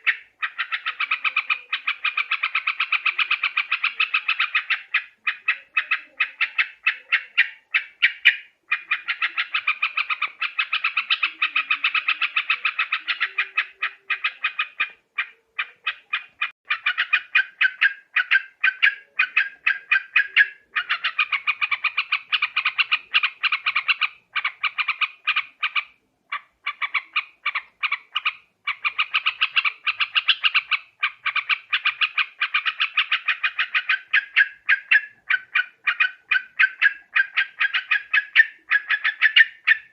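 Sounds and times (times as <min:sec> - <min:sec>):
bird chattering: 0:00.0 - 0:39.9.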